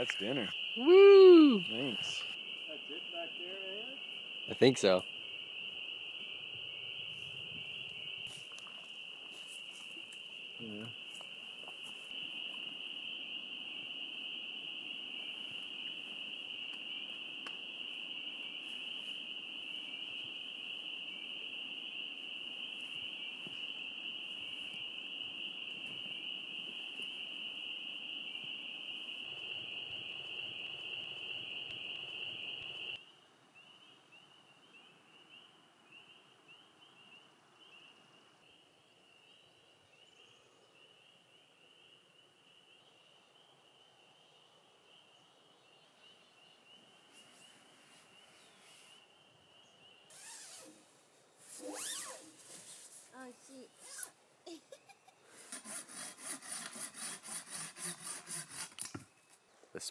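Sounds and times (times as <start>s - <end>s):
frogs peeping: 0.0s - 50.6s.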